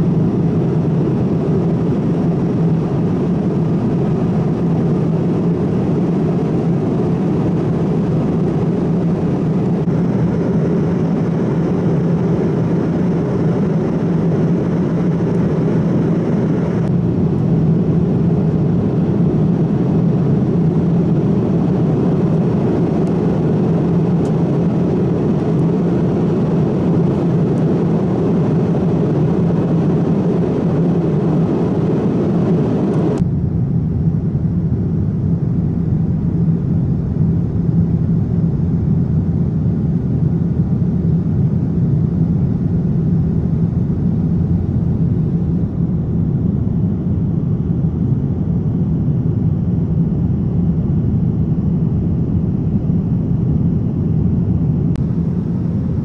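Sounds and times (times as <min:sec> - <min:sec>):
airplane cabin noise in flight: 0:00.0 - 0:56.0.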